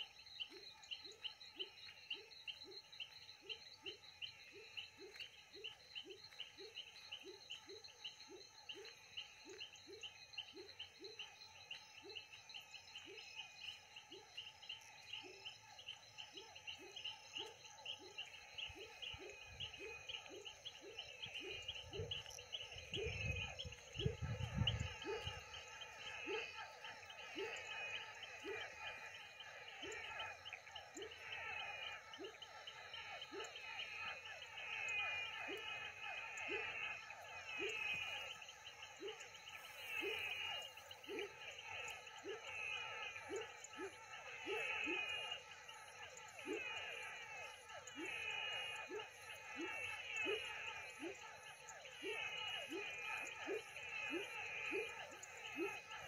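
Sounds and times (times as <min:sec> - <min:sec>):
chorus of frogs and insects: 0:00.0 - 0:56.0.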